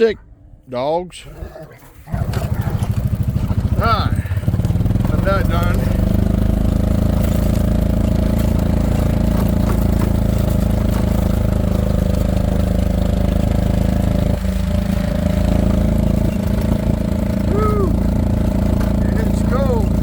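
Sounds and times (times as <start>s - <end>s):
golf cart engine running: 2.0s - 20.0s.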